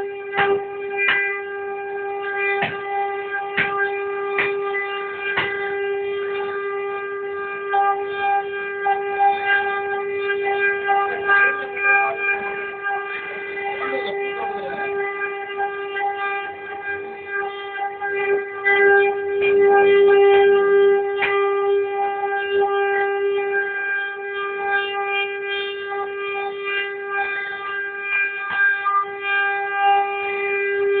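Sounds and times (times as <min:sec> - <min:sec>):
router spindle high whine: 0:00.0 - 0:31.0.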